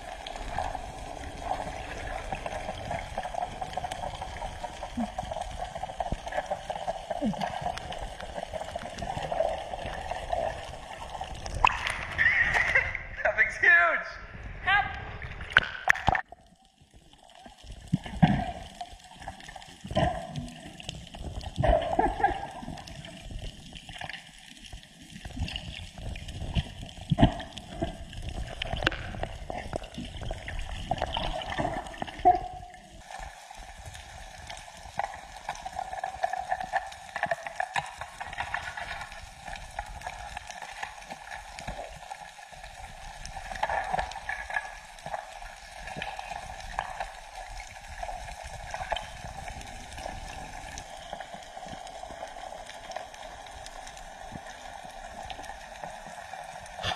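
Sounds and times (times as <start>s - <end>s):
water gurgling underwater: 0.0s - 13.2s, 14.3s - 56.9s.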